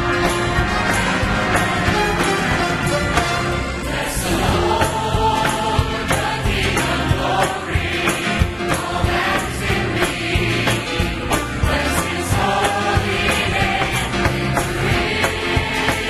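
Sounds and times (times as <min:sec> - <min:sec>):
choir singing gospel song: 0:00.0 - 0:16.0
orchestra strings and beat: 0:00.0 - 0:16.0.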